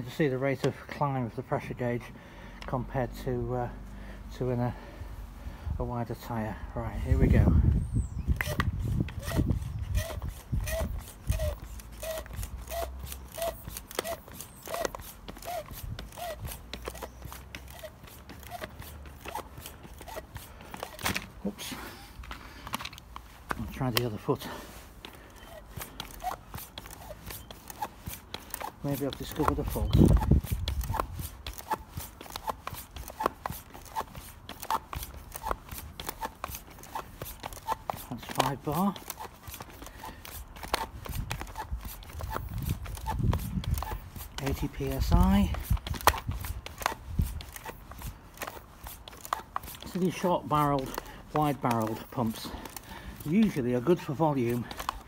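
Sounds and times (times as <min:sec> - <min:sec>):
foot pump strokes: 0:04.4 - 0:55.0
foot pump click: 0:08.3 - 0:55.0.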